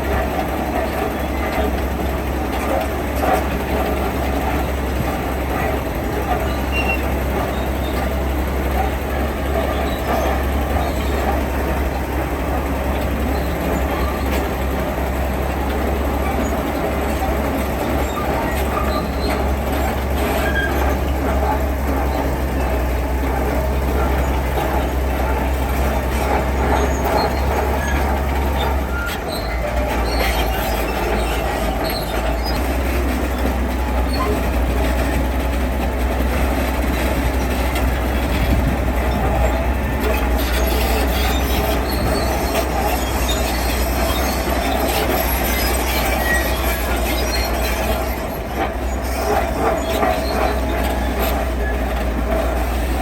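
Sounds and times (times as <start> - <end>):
diesel machinery engine drone: 0.0 - 53.0.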